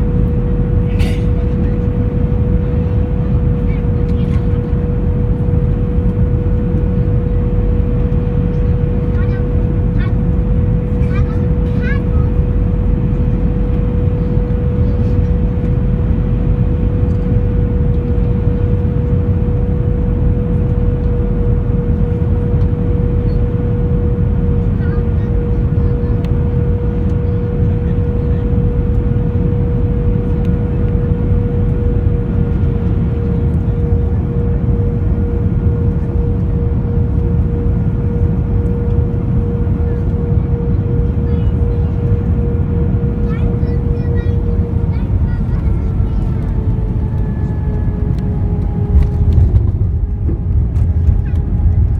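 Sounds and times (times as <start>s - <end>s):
aircraft cabin engine rumble: 0.0s - 51.9s
steady hum: 0.0s - 51.9s.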